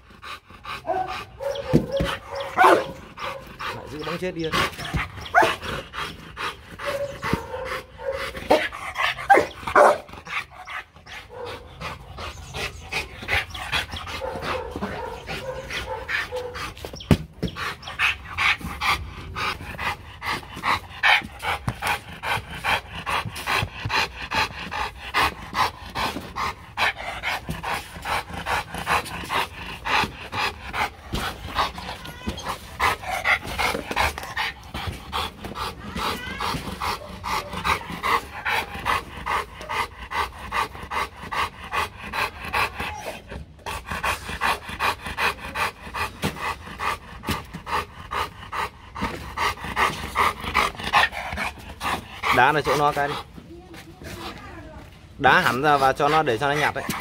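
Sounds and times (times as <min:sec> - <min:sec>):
dog panting: 0:00.0 - 0:57.0.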